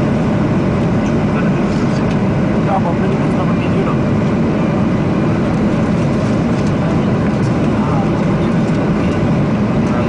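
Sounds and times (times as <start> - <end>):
aircraft engine roar: 0.0 - 10.0.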